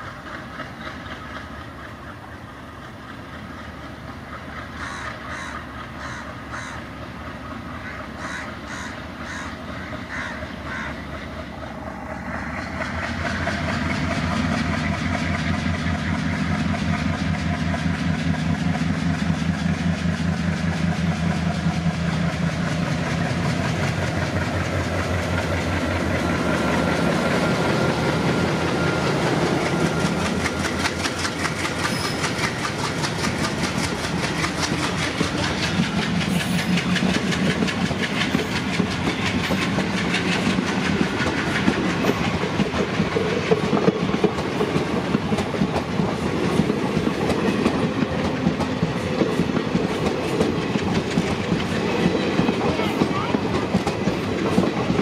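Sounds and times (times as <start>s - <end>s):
diesel locomotive engine hum: 0.0s - 55.0s
train wheel clatter: 0.0s - 55.0s.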